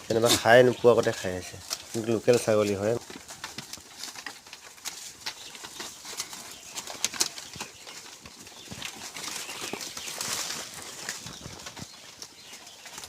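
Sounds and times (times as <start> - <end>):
goats chewing snapping stems: 0.0 - 13.0
leaves rustling: 0.0 - 13.0.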